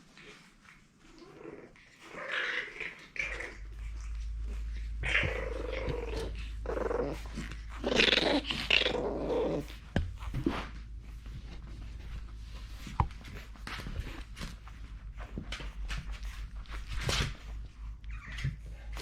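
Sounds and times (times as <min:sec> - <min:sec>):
puppy growling: 0:00.0 - 0:19.0.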